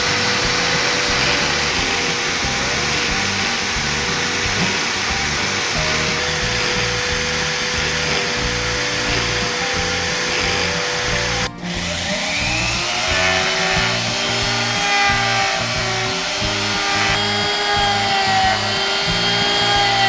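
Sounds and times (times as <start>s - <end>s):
polishing wheel rubbing metal: 0.0s - 20.0s
rotary tool whining: 0.0s - 20.0s.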